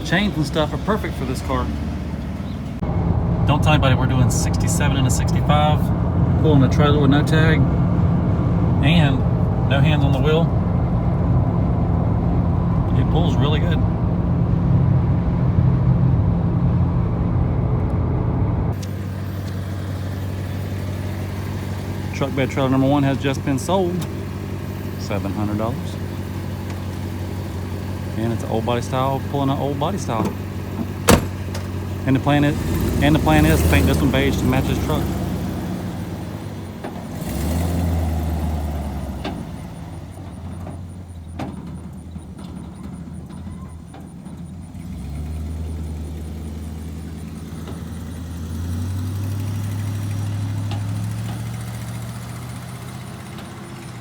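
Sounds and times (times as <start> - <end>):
car engine and road drone: 0.0 - 54.0
quiet engine hum: 0.0 - 54.0.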